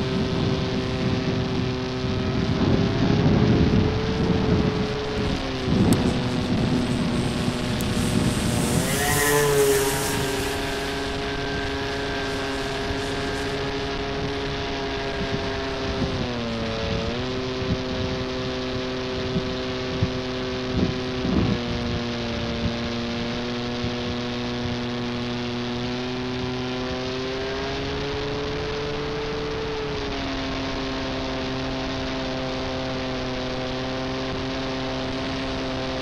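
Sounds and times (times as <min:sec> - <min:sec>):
electric model plane motor humming: 0:00.0 - 0:36.0.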